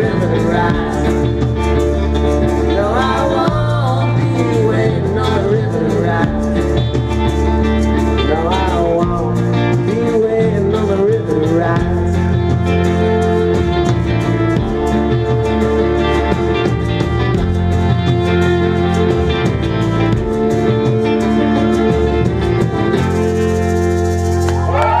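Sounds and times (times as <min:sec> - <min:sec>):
live folk-rock band playing: 0:00.0 - 0:25.0.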